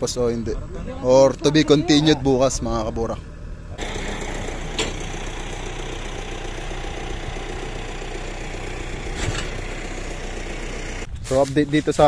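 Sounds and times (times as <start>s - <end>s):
tractor diesel engine idling: 0.0s - 11.1s.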